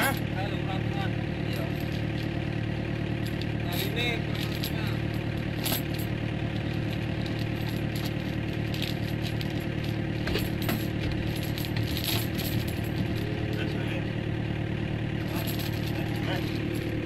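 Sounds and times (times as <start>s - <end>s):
steel chains clinking: 0.0s - 14.3s, 15.0s - 17.0s
diesel engine idling: 0.0s - 17.0s.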